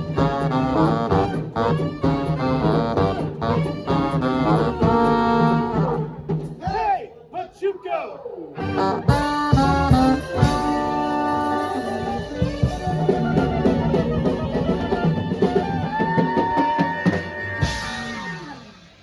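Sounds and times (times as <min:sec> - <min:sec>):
live swing band playing: 0:00.0 - 0:06.6, 0:08.6 - 0:18.7.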